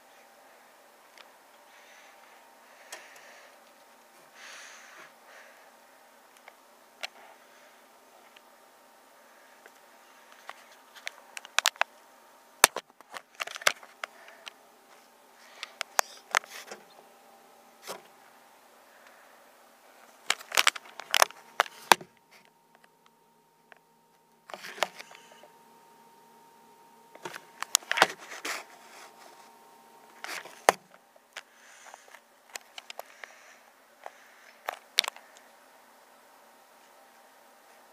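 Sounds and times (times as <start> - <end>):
faint room hiss: 0.0 - 37.9
faint steady hum: 0.0 - 37.9.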